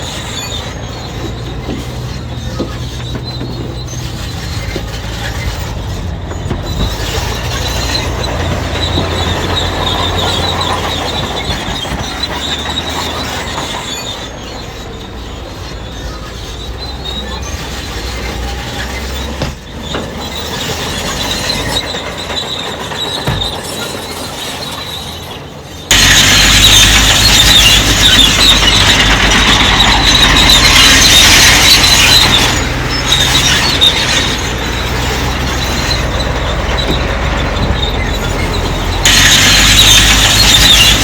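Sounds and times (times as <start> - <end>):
diesel engine under load: 0.0 - 41.0
steel tracks squealing: 0.0 - 41.0.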